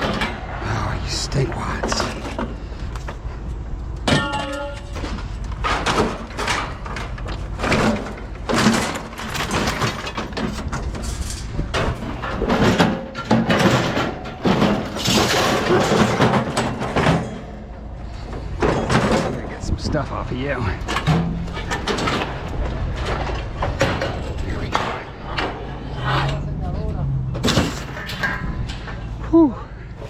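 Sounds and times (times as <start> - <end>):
scrap metal clanking and rattling: 0.0 - 30.0.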